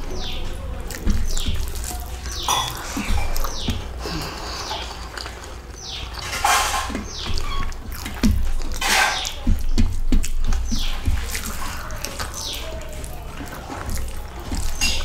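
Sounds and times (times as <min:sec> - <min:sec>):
fingers squishing rice: 0:00.0 - 0:15.0
wet chewing and smacking: 0:00.0 - 0:15.0.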